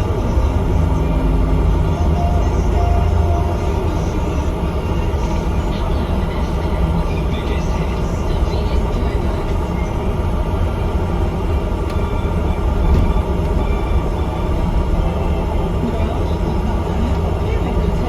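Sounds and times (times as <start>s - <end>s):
bus engine running: 0.0s - 18.0s
road noise: 0.0s - 18.0s.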